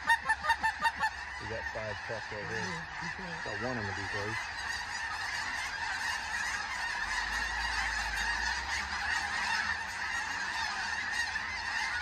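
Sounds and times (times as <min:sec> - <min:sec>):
flock of geese honking: 0:00.0 - 0:12.0.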